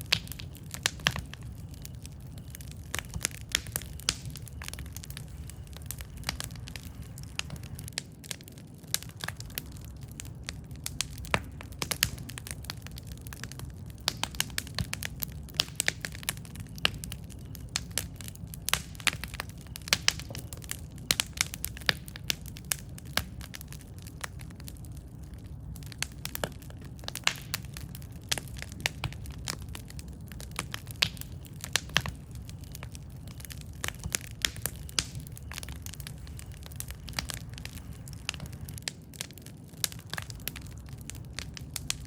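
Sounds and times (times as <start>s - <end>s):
campfire crackling and popping: 0.0s - 42.0s
low rumble of flames: 0.0s - 42.0s.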